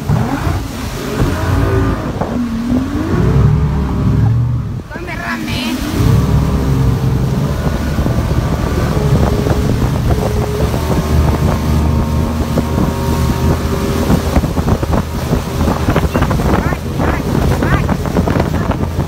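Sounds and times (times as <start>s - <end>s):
boat motor running: 0.0s - 19.0s
wind buffeting microphone: 0.0s - 19.0s.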